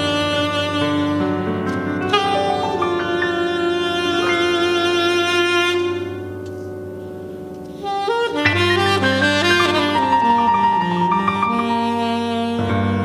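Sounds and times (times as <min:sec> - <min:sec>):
keyboard chords: 0:00.0 - 0:13.0
tenor saxophone: 0:00.0 - 0:13.0.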